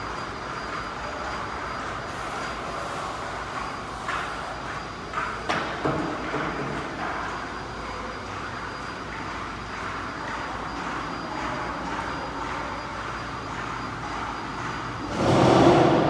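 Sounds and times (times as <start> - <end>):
ventilation hum: 0.0 - 16.0.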